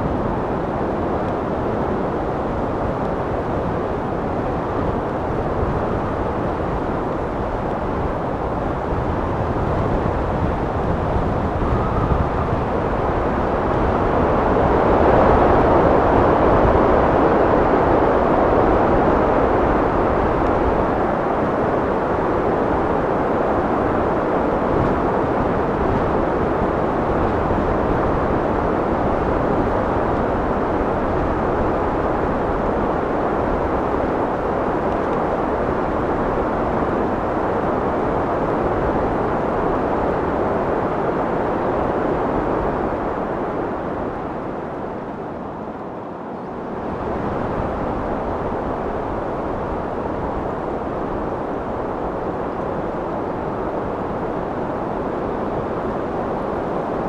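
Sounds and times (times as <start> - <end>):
wind blowing: 0.0 - 57.0.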